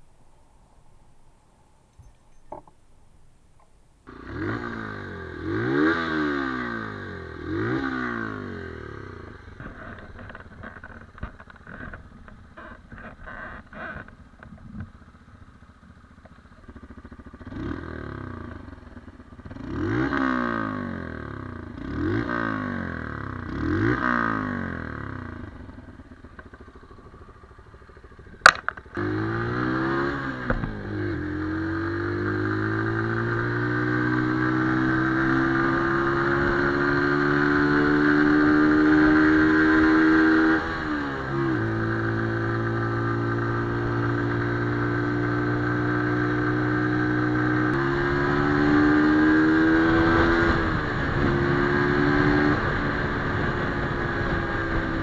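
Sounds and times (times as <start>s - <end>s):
motorcycle engine revving: 4.0s - 55.0s.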